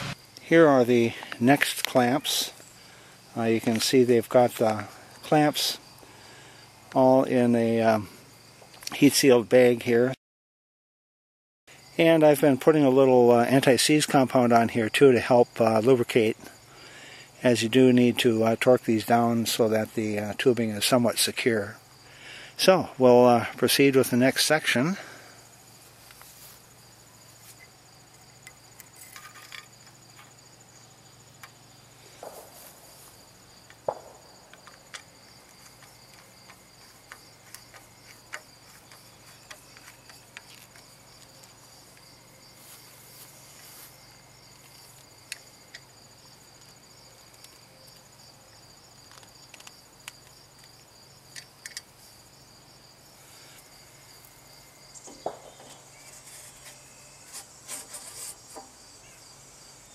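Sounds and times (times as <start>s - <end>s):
insects trilling: 0.0s - 10.1s, 11.7s - 59.9s.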